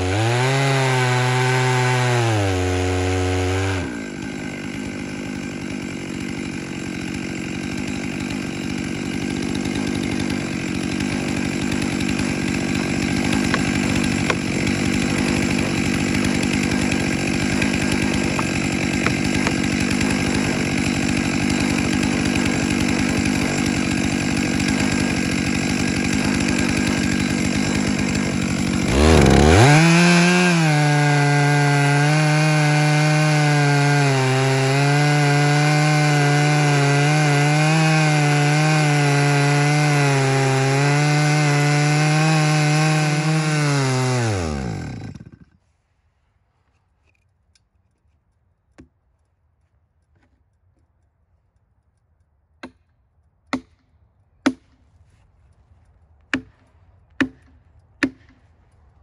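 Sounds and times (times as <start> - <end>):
chainsaw cutting log: 0.0 - 45.6, 53.5 - 53.8, 54.4 - 55.2, 56.2 - 58.5.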